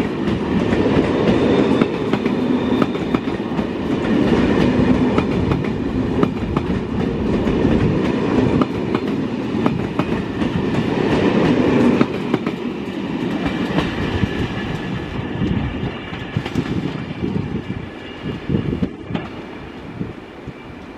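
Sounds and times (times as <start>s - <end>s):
train coaches rolling past: 0.0s - 20.9s.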